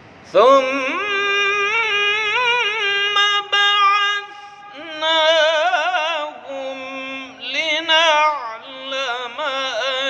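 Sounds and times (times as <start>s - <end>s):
person chanting melodically: 0.3s - 10.0s.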